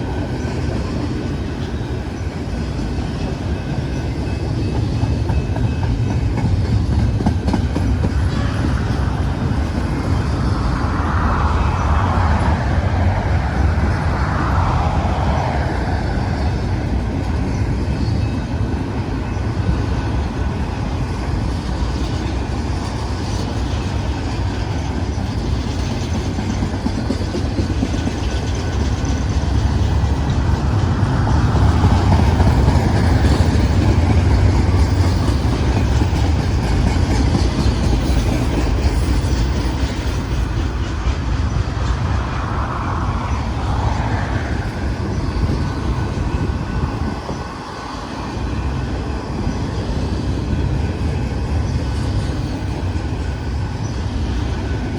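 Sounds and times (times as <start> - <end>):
freight train wheels on rails: 0.0 - 54.9.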